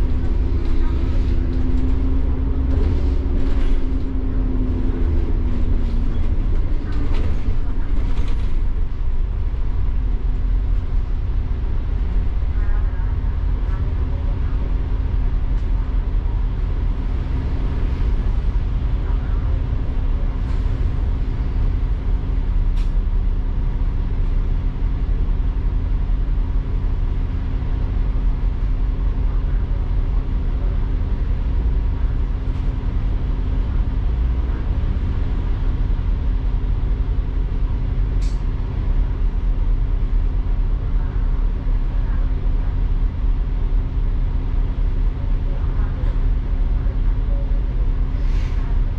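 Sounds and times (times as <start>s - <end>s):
bus engine drone: 0.0s - 48.9s
road rumble: 0.0s - 48.9s.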